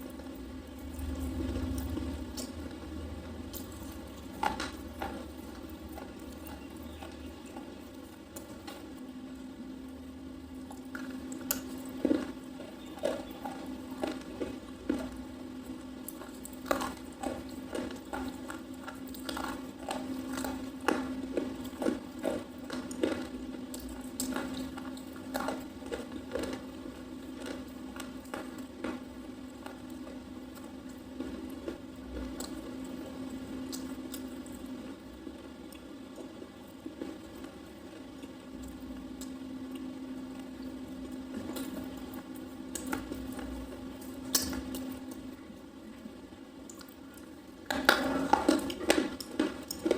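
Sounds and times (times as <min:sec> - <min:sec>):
person chewing and crunching: 0:00.0 - 0:09.0, 0:10.6 - 0:45.4, 0:46.7 - 0:49.9
steady low hum: 0:00.0 - 0:49.9.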